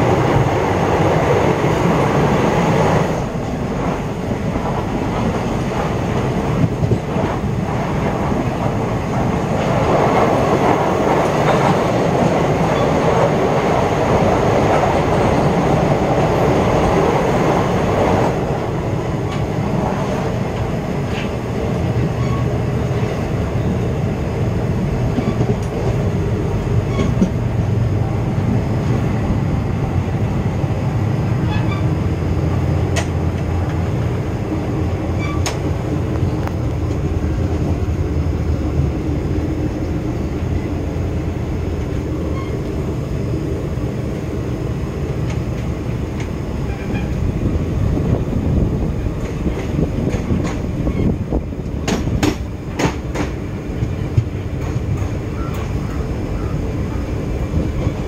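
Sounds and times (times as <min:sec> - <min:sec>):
clickety-clack over rail joints: 0:00.0 - 0:43.6, 0:44.2 - 0:58.0
train wheels rumbling and rattling: 0:00.0 - 0:58.0.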